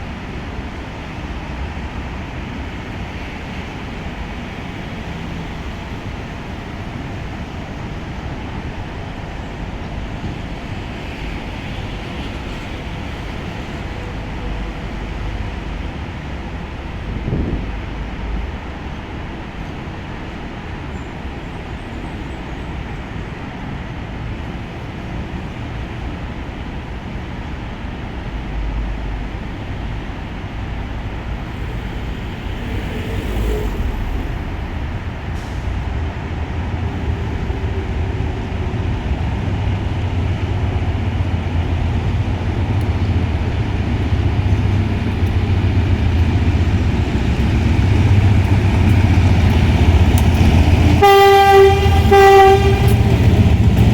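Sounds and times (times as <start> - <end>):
diesel locomotive rumbling: 0.0 - 53.9.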